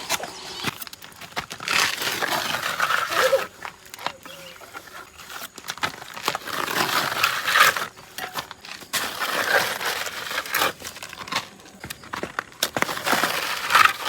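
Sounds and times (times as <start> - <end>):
trowel scraping mortar: 0.0 - 14.0.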